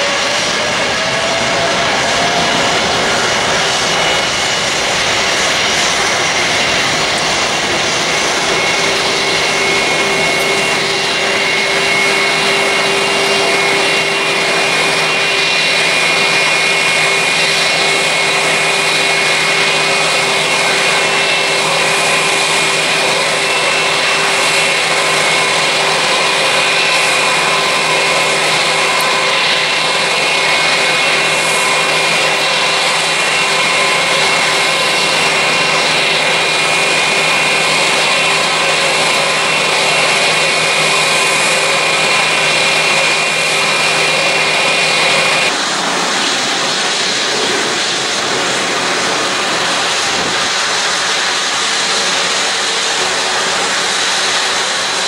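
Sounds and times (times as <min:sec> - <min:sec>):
high fan whine: 0:00.0 - 0:55.0
jet engines at high thrust: 0:00.0 - 0:55.0.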